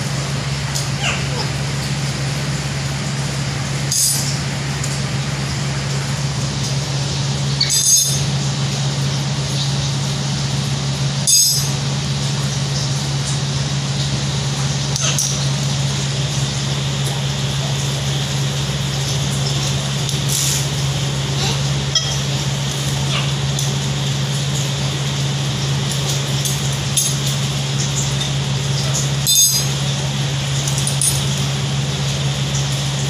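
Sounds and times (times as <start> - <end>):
air cooler humming: 0.0 - 33.0.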